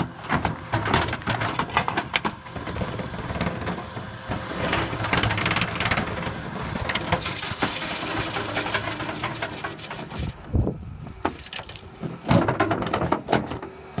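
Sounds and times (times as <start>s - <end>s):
rattling and knocking in duct: 0.0s - 10.3s, 11.2s - 13.6s.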